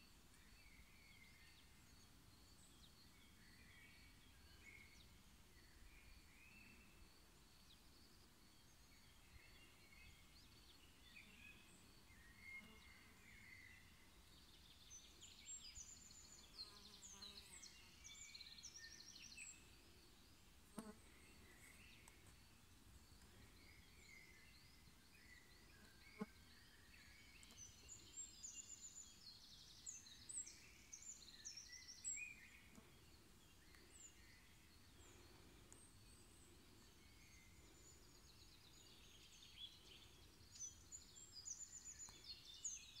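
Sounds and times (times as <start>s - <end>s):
songbirds chirping and trilling: 0.0s - 43.0s.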